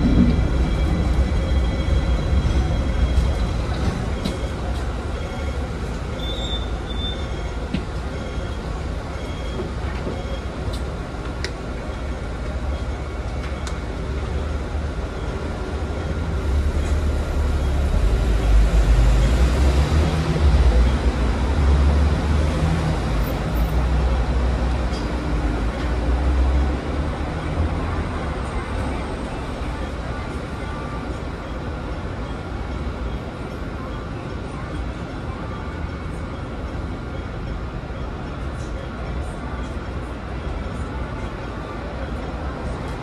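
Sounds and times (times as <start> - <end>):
tram rumbling: 0.0 - 43.0.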